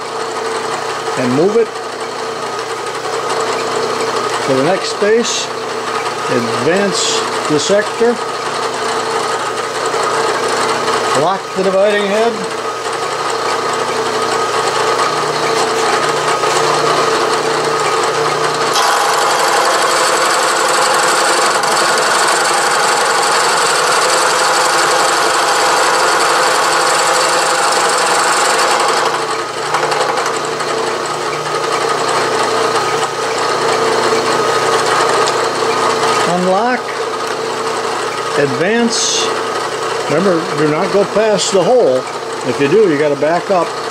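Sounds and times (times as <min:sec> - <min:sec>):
milling machine running: 0:00.0 - 0:43.9
cutter cutting steel: 0:06.2 - 0:43.6.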